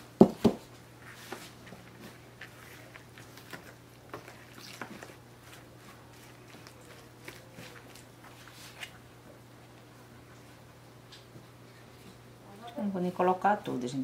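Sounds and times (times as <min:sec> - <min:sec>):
soft squishy dough sounds: 0:00.6 - 0:12.9.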